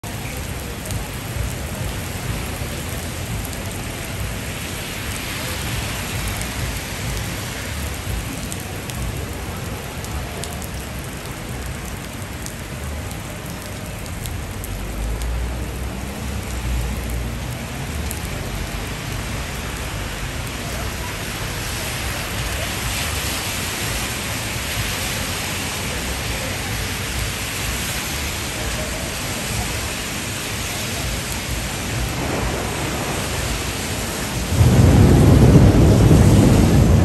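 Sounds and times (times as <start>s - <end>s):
heavy rain on street: 0.0s - 37.0s.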